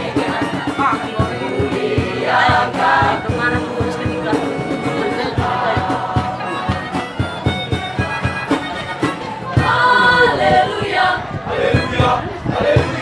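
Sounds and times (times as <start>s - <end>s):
choir singing: 0.0s - 6.9s, 9.5s - 13.0s
steady beat of low thumps: 0.0s - 13.0s.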